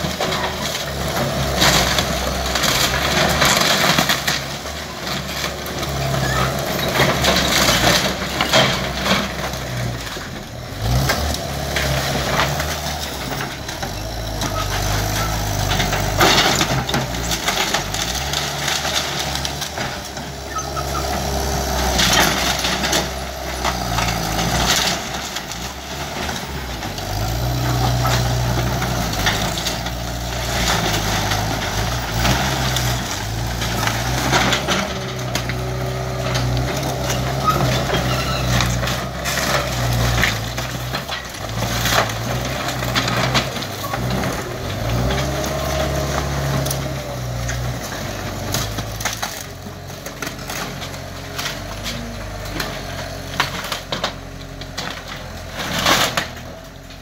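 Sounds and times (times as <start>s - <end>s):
skid steer engine running: 0.0s - 57.0s
wood cracking and crunching: 0.0s - 57.0s.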